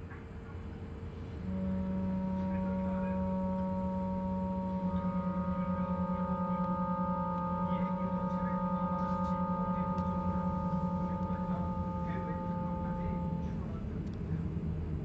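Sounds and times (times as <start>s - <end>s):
ringing drone tones: 1.4s - 15.0s.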